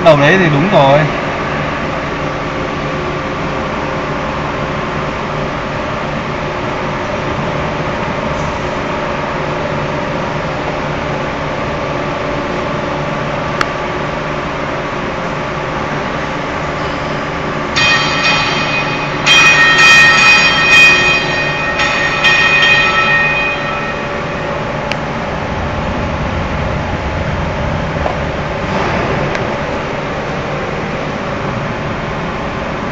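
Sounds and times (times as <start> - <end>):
high-pitched multi-tone whine: 0.0 - 32.9
machine humming: 0.0 - 32.9.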